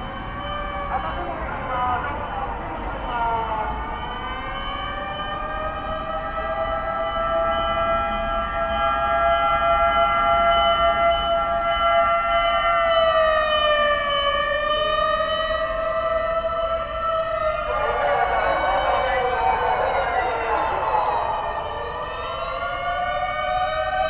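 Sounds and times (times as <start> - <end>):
emergency vehicle siren wailing: 0.0 - 24.0.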